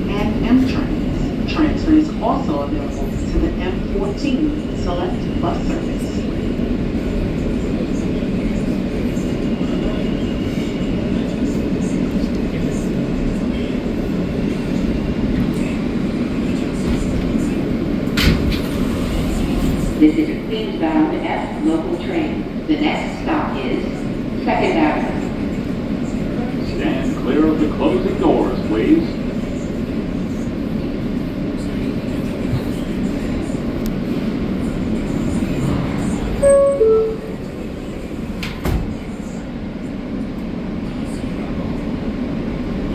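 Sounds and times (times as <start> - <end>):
subway car rumble: 0.0 - 42.9.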